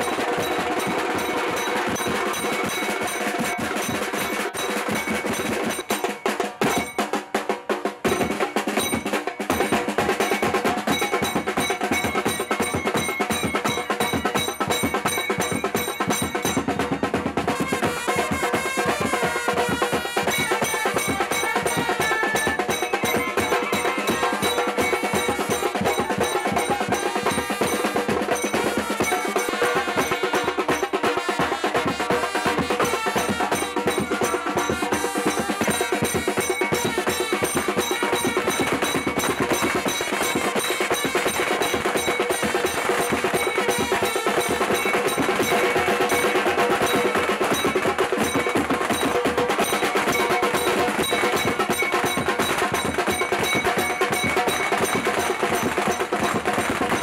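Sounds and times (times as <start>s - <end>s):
snare and bass drum beating: 0.0s - 57.0s.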